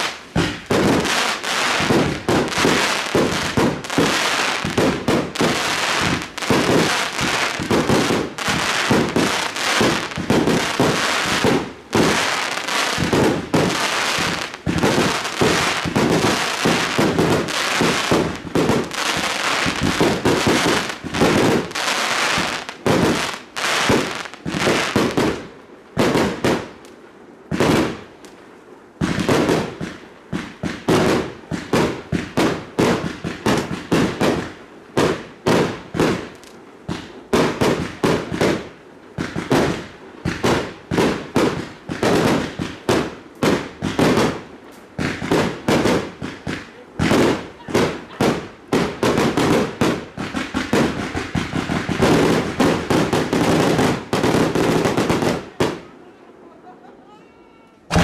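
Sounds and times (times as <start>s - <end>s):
fireworks bangs: 0.0s - 26.9s, 27.5s - 28.4s, 29.0s - 58.0s.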